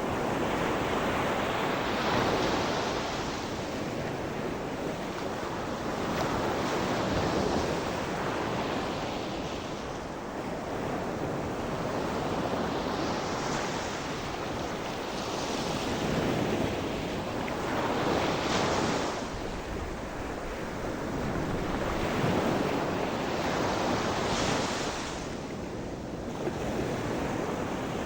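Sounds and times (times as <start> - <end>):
sea waves breaking on shore: 0.0 - 28.0
wind on microphone: 0.0 - 28.0.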